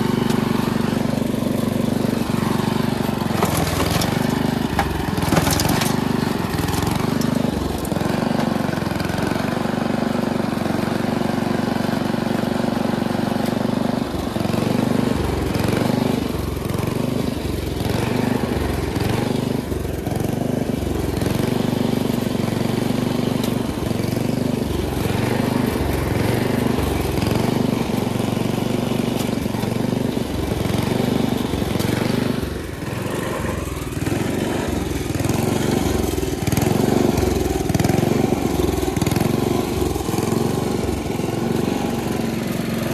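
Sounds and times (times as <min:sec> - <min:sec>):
snowblower engine running: 0:00.0 - 0:42.9.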